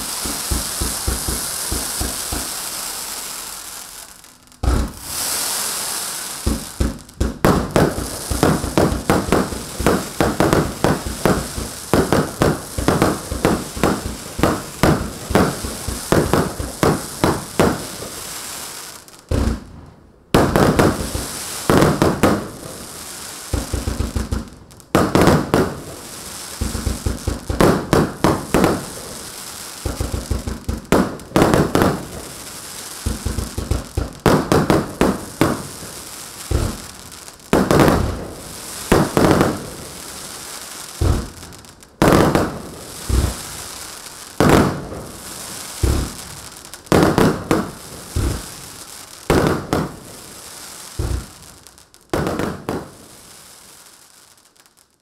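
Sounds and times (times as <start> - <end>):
fireworks firing and bursting: 0.0 - 55.0.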